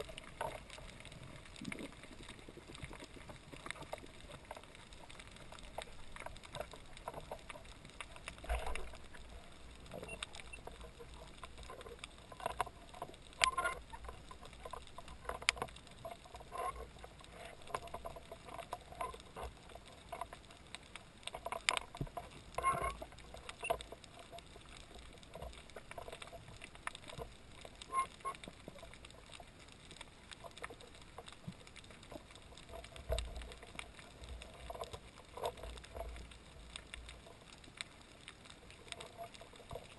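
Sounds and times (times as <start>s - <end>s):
faint steady hum: 0.0s - 39.9s
underwater clicks and crackles: 0.0s - 39.9s.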